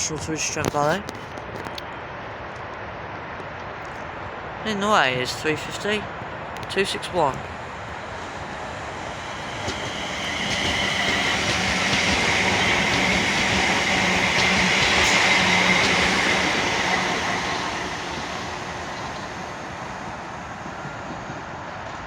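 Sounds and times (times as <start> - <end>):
train wheels rushing on rail: 0.0 - 22.0.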